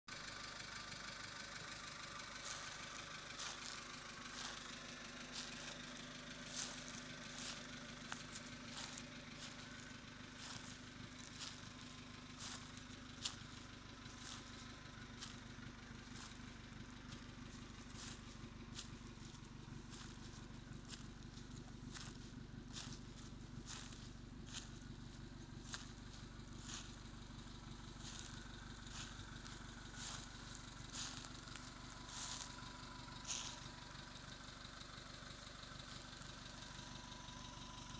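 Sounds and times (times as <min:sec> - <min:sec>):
car exhaust idling: 0:00.1 - 0:37.9.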